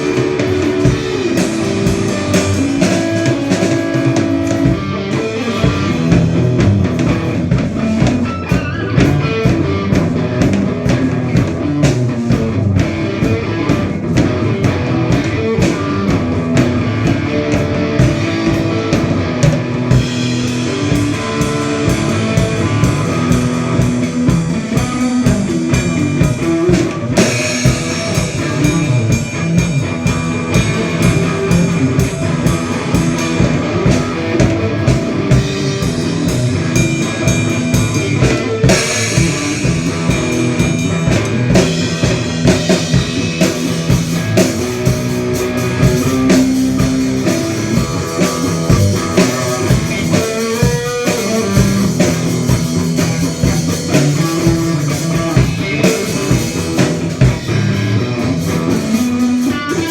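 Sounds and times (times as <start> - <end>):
drum kit steady beat: 0.0 - 59.9
rock guitar: 0.0 - 59.9.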